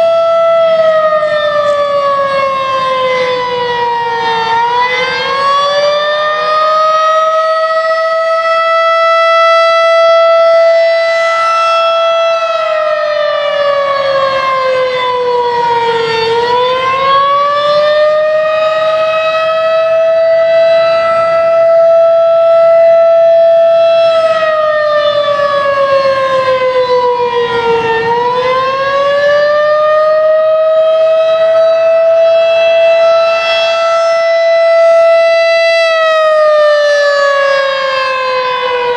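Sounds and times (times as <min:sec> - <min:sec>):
siren wailing: 0:00.0 - 0:38.9.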